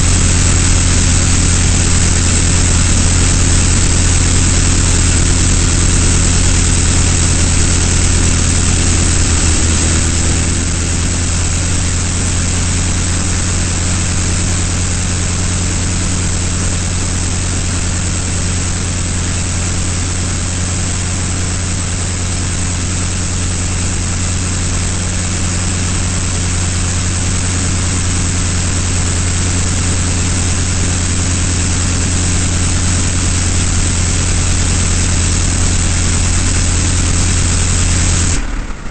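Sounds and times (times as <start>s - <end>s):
biplane engine drone: 0.0s - 38.9s.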